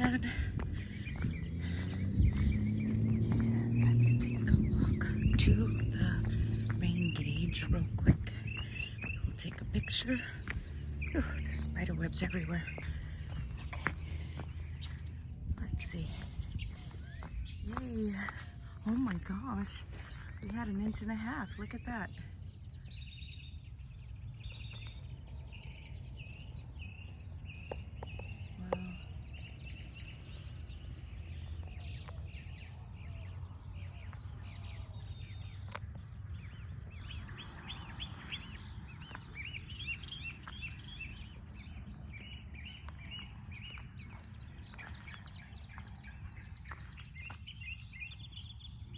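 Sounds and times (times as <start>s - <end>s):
small birds chirping: 0.0s - 48.9s
steady low rumble: 0.0s - 48.9s.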